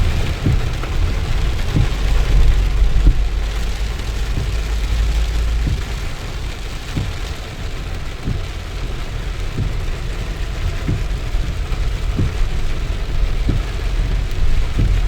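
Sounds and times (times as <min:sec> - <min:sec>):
low vehicle rumble: 0:00.0 - 0:15.0
steady rain: 0:00.0 - 0:15.0.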